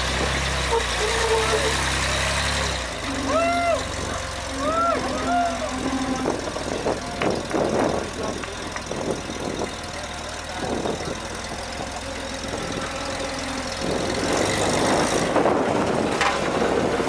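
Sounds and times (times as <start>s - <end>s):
off-road vehicle engine low revs: 0.0s - 17.0s.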